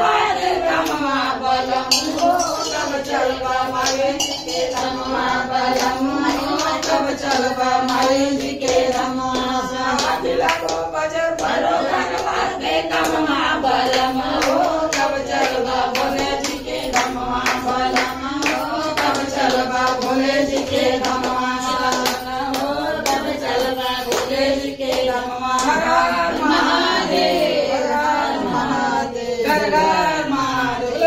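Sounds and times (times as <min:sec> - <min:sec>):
women singing: 0:00.0 - 0:31.0
handclaps keeping time: 0:00.2 - 0:31.0.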